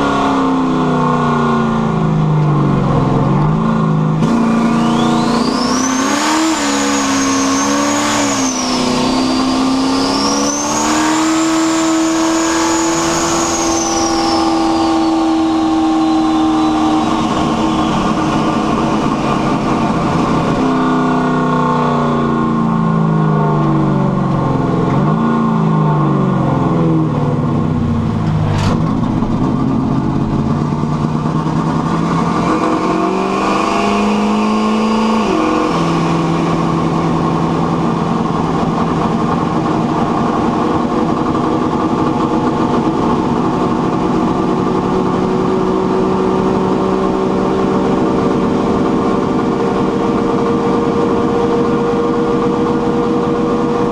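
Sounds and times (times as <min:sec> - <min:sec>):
turbo car engine revving: 0:00.0 - 0:53.9.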